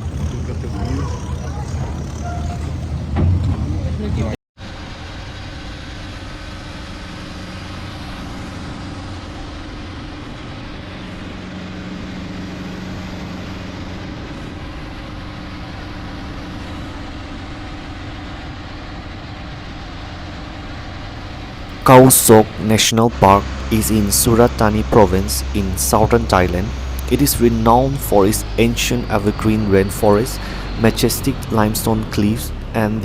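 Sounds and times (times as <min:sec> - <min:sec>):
motorboat engine droning: 0:00.0 - 0:33.0.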